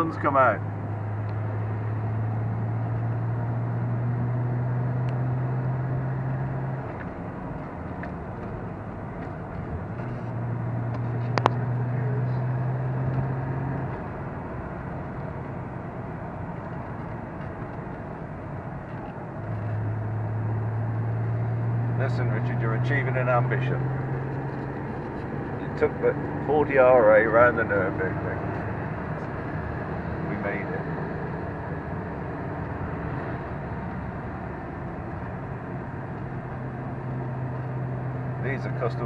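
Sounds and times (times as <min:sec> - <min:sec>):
car engine drone: 0:00.0 - 0:39.0
road and tyre noise: 0:00.0 - 0:39.0.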